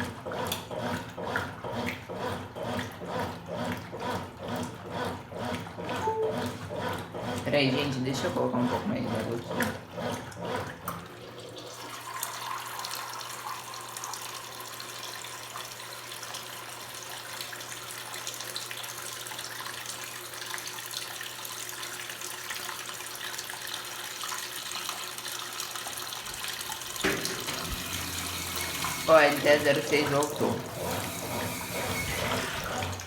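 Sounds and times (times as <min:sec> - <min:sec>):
water running into washing machine: 0:00.0 - 0:33.0.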